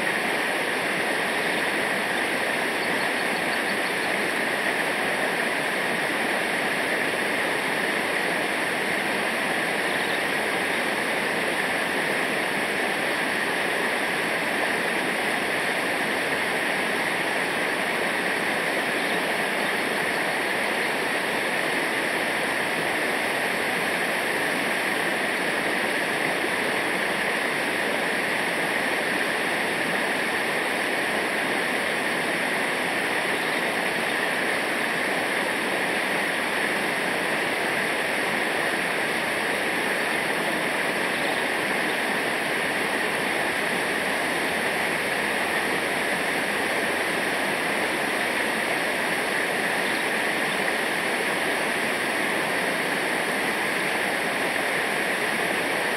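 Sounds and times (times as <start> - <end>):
river rushing over rapids: 0.0 - 55.9.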